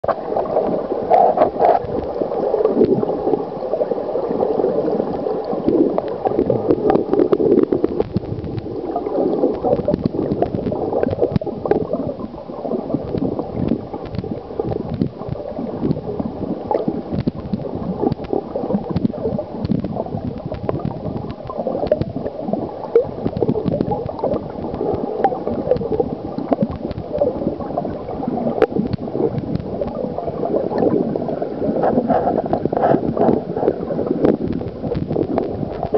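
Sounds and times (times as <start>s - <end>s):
small clicks and pops: 0.0s - 3.4s, 5.1s - 35.9s
underwater stream gurgling: 0.0s - 35.9s.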